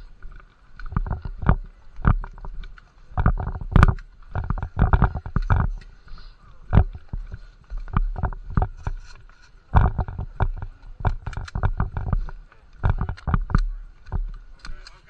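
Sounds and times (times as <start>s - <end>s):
faint steady hum: 0.0s - 15.0s
camera handling knocks: 0.8s - 5.9s, 6.7s - 14.8s.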